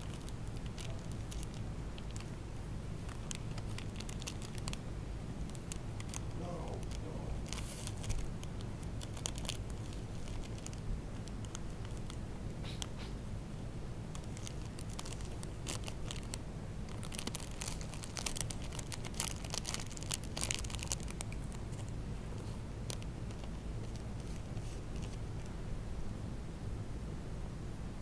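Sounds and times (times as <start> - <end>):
packaging crinkling and tearing: 0.0 - 13.0, 14.1 - 25.5
cat biting and clawing package: 0.0 - 13.1, 14.1 - 25.4.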